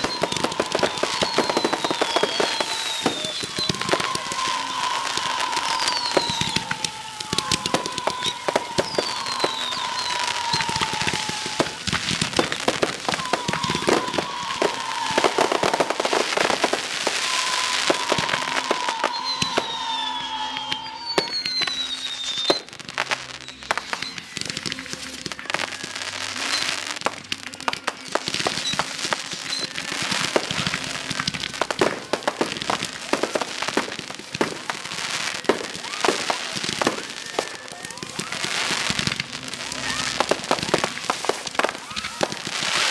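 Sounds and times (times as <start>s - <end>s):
falling firework whistles: 0.0s - 42.9s
fireworks bangs and crackles: 0.0s - 42.9s.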